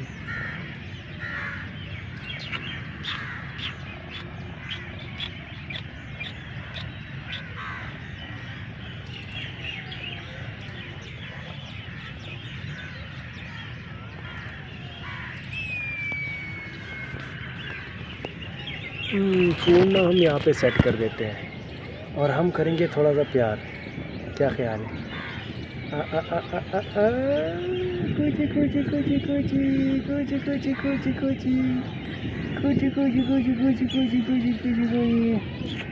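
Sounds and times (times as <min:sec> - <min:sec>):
birds chirping and calling: 0:00.0 - 0:35.9.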